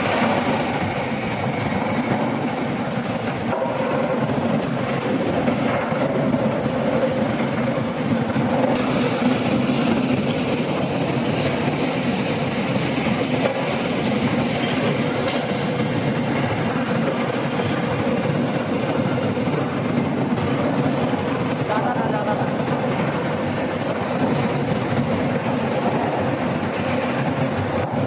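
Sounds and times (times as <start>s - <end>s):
industrial machinery drone: 0.0s - 28.0s.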